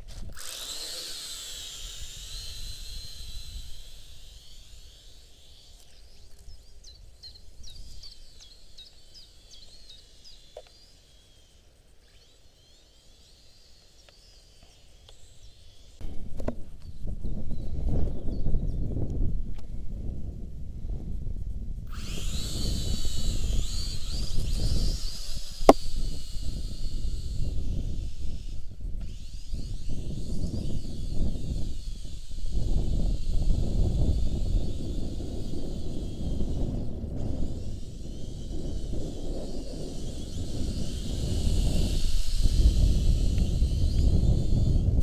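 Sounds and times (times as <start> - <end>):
wind buffeting microphone: 0.0 - 10.5, 15.4 - 45.0
drone motors whining: 0.0 - 18.8, 21.8 - 45.0.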